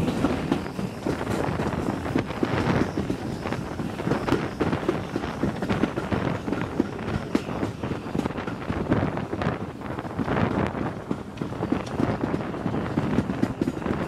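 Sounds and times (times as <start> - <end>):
train wheels clattering on rails: 0.0 - 14.0
wind buffeting microphone: 0.0 - 14.0.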